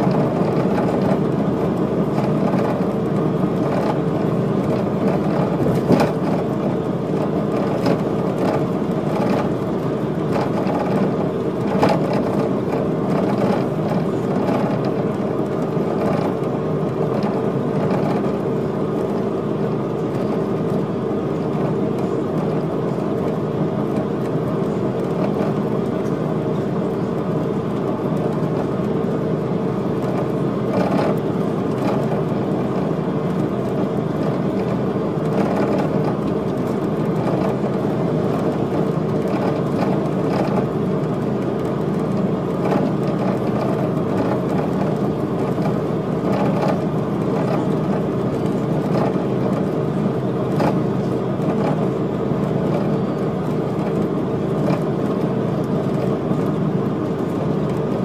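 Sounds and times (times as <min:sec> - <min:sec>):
coach engine and road noise: 0:00.0 - 0:58.0.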